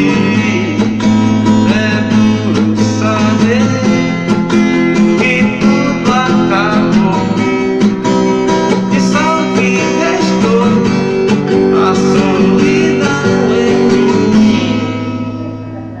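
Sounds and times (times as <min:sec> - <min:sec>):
acoustic guitar music on car stereo: 0:00.0 - 0:16.0.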